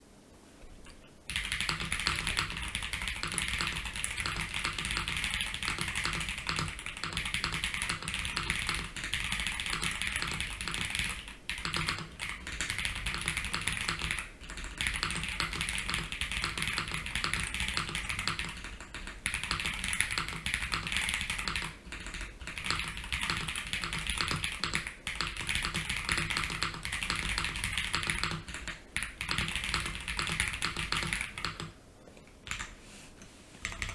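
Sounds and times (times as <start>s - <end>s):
mechanical keyboard typing: 1.3s - 31.8s, 32.4s - 32.8s, 33.6s - 33.9s.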